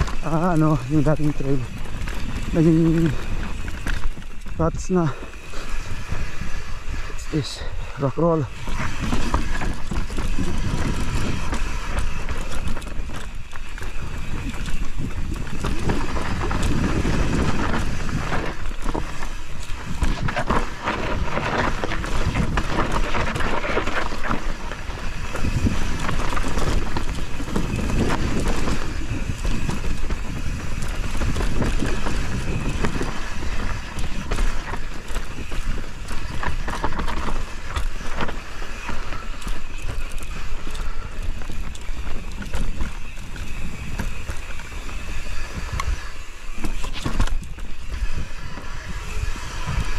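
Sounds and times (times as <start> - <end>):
bike clicking and rattling: 0.0 - 49.9
bike tyres over dirt and stones: 0.0 - 49.9
wind on microphone: 0.0 - 49.9.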